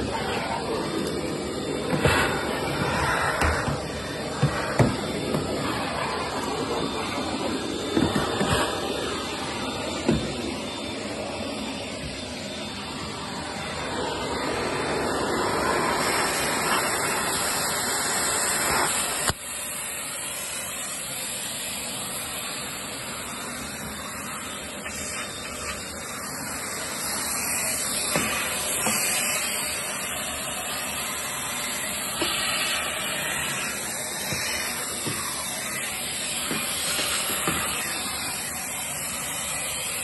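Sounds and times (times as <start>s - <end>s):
vacuum cleaner suction: 0.0s - 40.0s.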